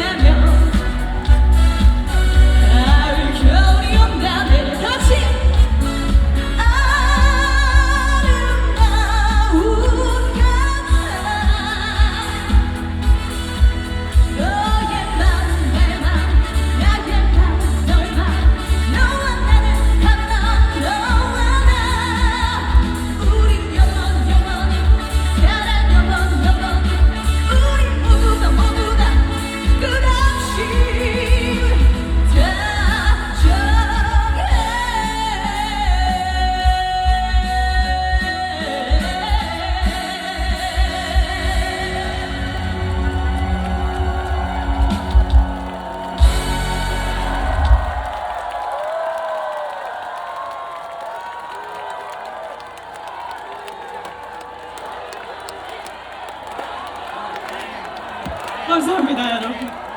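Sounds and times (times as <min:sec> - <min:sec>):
band backing track with bass beat: 0:00.0 - 0:48.3
woman singing with vibrato: 0:00.0 - 0:48.9.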